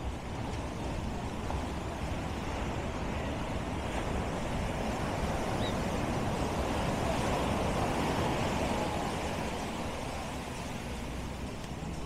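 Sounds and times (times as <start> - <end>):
surf washing onto beach: 0.0 - 12.0.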